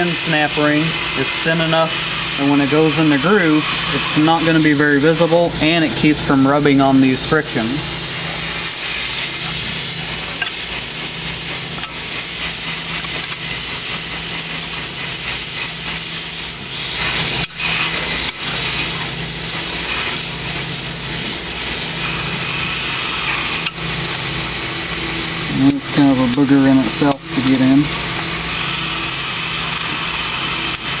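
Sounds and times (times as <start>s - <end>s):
steady hiss: 0.0s - 31.0s.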